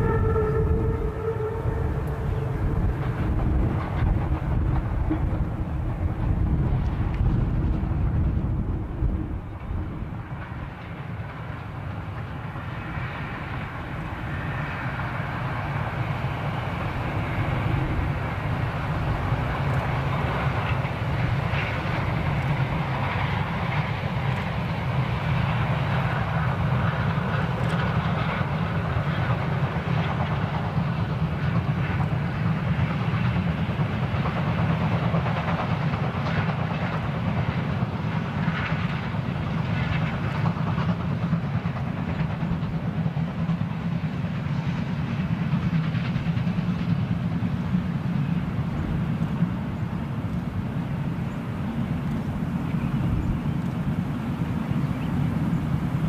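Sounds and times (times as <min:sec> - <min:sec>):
steam locomotive rumbling: 0:00.0 - 0:56.0.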